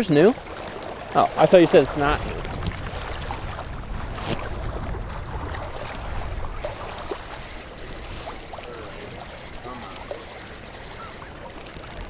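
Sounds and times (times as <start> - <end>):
wind buffeting microphone: 1.0 - 11.6.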